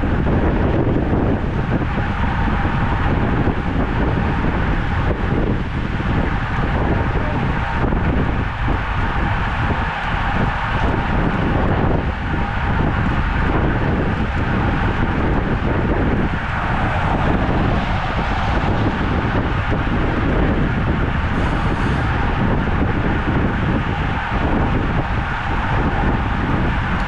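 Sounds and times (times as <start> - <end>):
bicycle tyre and road noise: 0.0 - 27.0
wind rushing over microphone: 0.0 - 27.0.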